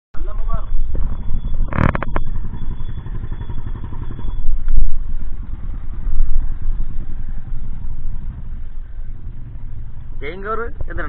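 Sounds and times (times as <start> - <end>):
motorcycle engine idling: 0.2 - 11.0.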